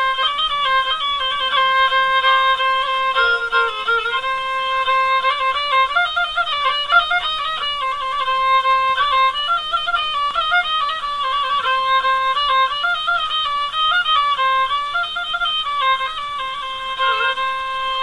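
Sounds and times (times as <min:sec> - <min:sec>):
ornamented instrumental melody: 0:00.0 - 0:18.0.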